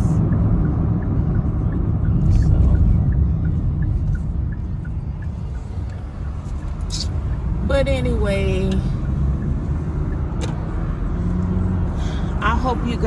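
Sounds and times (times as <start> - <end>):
car cabin road and engine rumble: 0.0 - 13.0
faint regular ticking: 0.0 - 13.0.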